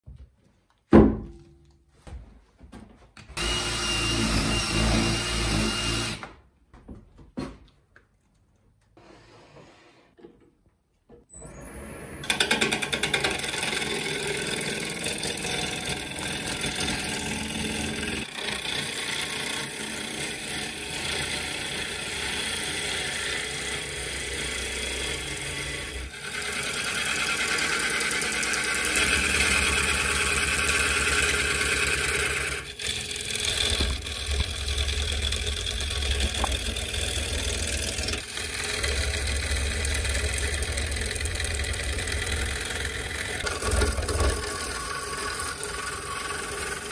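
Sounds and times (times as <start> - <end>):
wood lathe motor hum: 3.4 - 6.3, 11.6 - 46.9.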